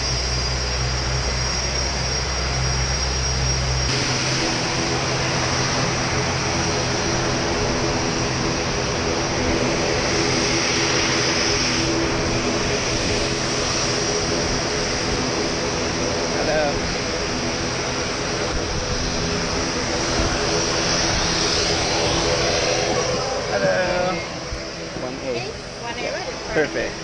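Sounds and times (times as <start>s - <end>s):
aircraft engine roar: 0.0s - 27.0s
engine whine: 0.0s - 27.0s
low hum: 0.0s - 27.0s.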